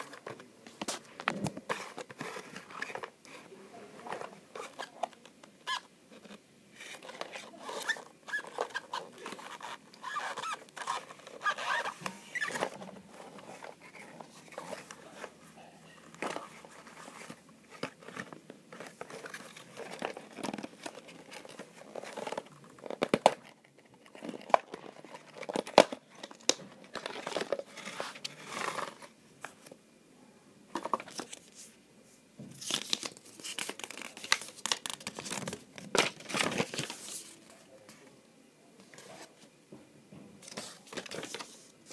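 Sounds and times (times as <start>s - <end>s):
hands rustling cardboard packaging: 0.0s - 29.6s, 32.6s - 37.6s, 40.4s - 41.9s.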